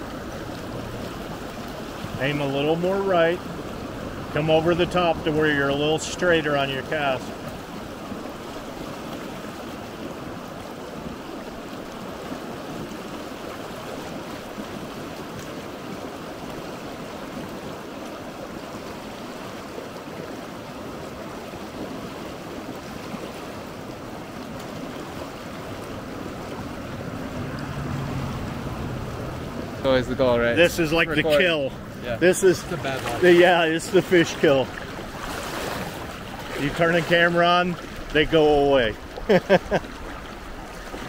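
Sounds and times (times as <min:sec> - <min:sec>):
river water rushing: 0:00.0 - 0:41.0.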